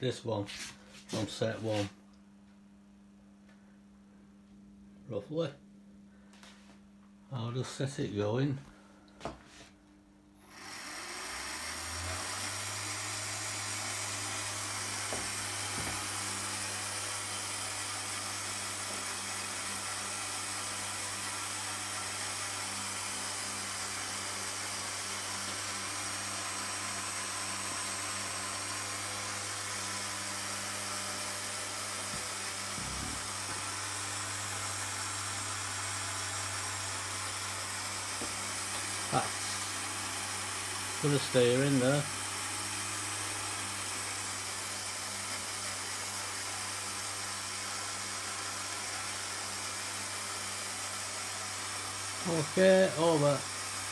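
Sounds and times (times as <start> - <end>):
electric motor whirring hum: 10.4 - 53.9.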